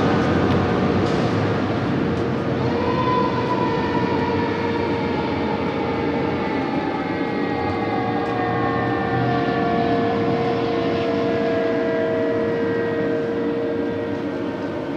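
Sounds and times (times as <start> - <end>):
road noise: 0.0 - 14.9
fire engine siren: 2.0 - 14.9.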